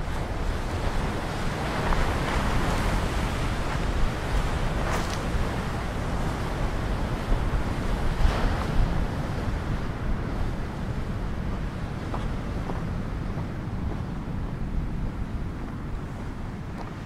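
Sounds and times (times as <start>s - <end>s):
surf on rocky shore: 0.0s - 17.0s
wind rumbling on microphone: 0.0s - 17.0s.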